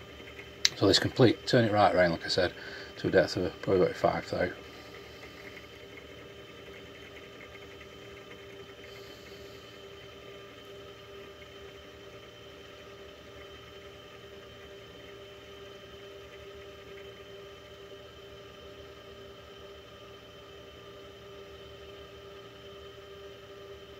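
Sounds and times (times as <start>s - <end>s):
milling machine motor whining: 0.0s - 23.9s.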